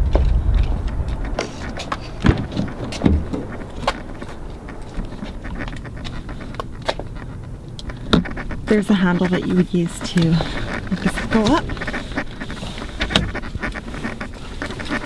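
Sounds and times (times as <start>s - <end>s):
low microphone handling rumble: 0.0s - 15.0s.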